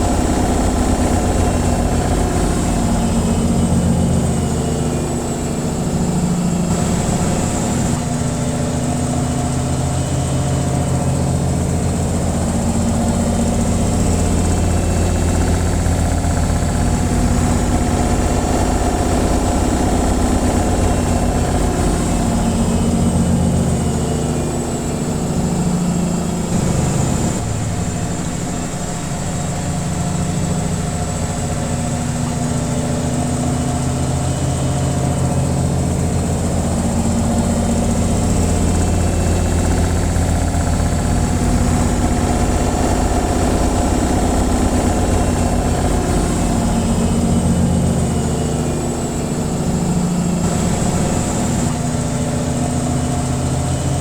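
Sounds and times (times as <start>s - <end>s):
washing machine spin cycle: 0.0s - 54.0s.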